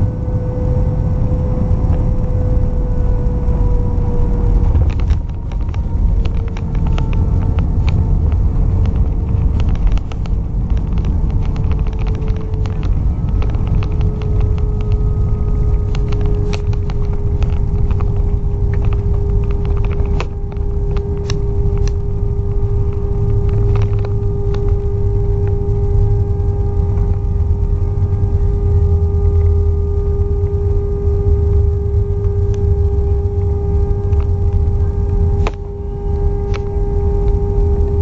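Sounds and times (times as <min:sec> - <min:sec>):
airplane cabin engine hum: 0:00.0 - 0:38.0.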